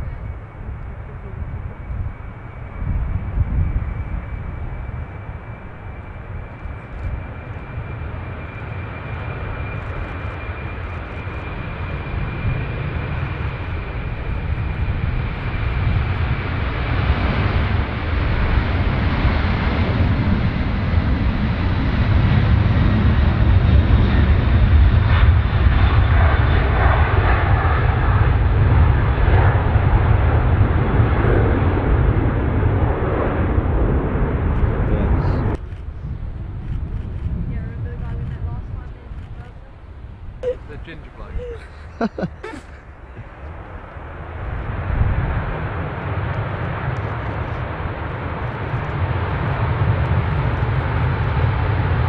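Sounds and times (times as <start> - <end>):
jet engines rumbling: 0.0 - 52.0.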